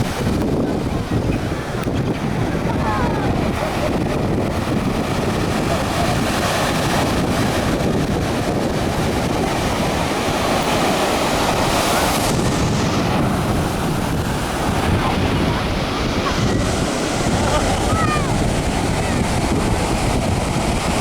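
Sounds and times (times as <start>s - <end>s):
surf: 0.0s - 21.0s
wind buffeting microphone: 0.0s - 21.0s.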